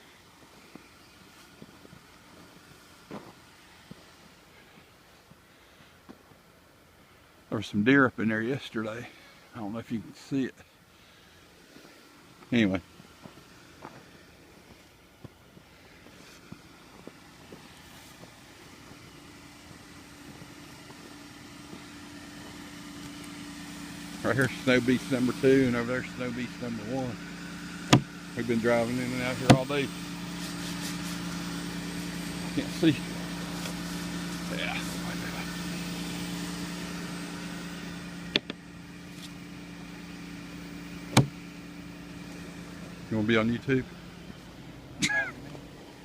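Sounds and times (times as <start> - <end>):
car engine idling: 0.0 - 7.7, 8.8 - 46.0.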